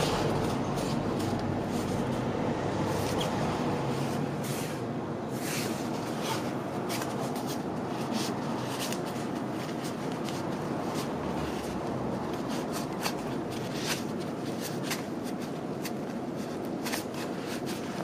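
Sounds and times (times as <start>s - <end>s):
nylon fabric rustling: 0.0s - 18.0s
steady rushing background noise: 0.0s - 18.0s.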